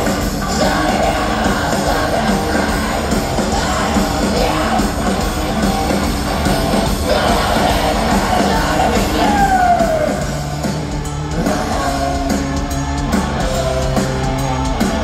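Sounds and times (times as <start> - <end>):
live heavy rock band: 0.0 - 15.0
shouted sung vocals: 0.0 - 15.0.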